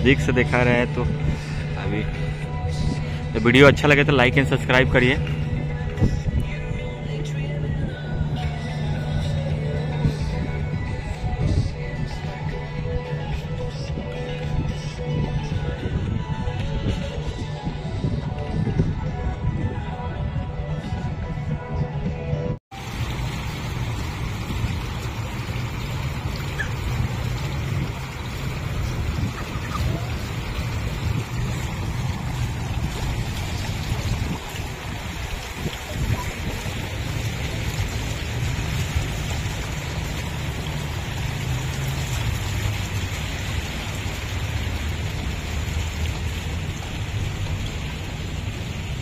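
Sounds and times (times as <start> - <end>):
fountain jets splashing: 0.0 - 17.4, 22.7 - 49.0
wind buffeting microphone: 4.4 - 7.0, 7.6 - 22.6, 23.3 - 49.0.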